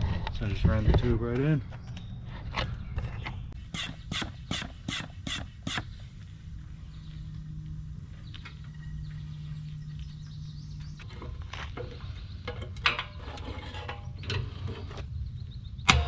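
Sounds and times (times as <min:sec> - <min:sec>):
low hum: 0:01.6 - 0:16.0.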